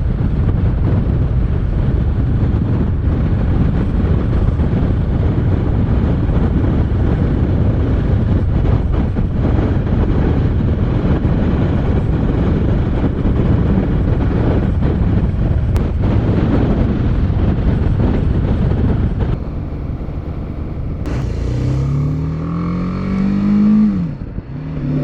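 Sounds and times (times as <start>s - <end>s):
motorcycle engine and road rumble: 0.0s - 25.0s
wind rushing over microphone: 0.0s - 25.0s.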